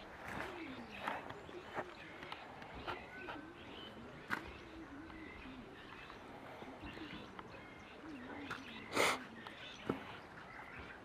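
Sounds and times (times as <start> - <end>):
low wavering bird cooing: 0.0 - 11.0.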